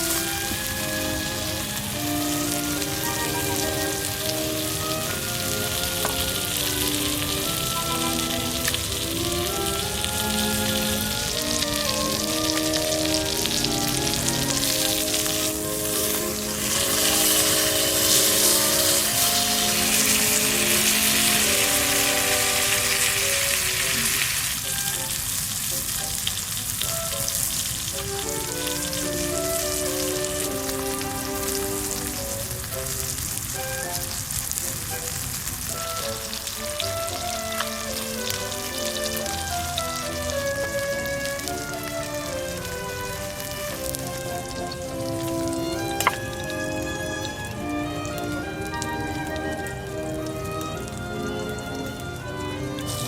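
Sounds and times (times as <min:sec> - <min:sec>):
background music simple melody: 0:00.0 - 0:53.0
food sizzling in a pan: 0:00.0 - 0:53.0.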